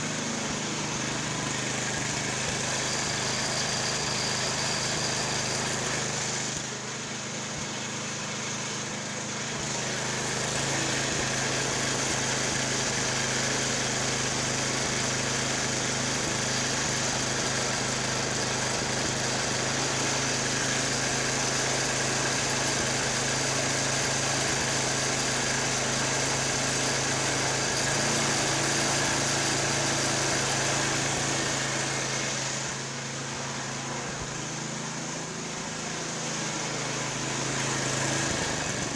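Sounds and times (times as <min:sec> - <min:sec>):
snowblower engine running: 0:00.0 - 0:38.9.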